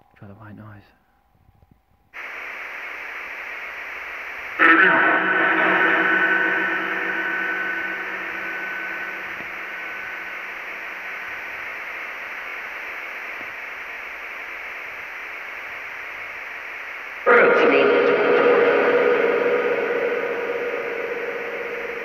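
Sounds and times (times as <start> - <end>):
faint steady tones: 0.0 - 22.0
white noise from phone speaker: 1.6 - 22.0.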